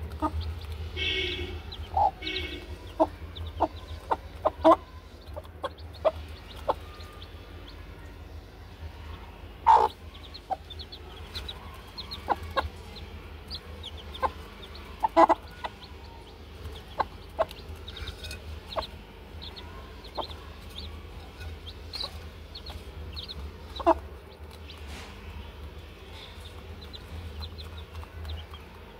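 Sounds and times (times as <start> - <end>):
hen clucking: 0.0 - 7.8, 9.6 - 25.3, 25.9 - 28.9
chicks peeping: 0.0 - 28.9.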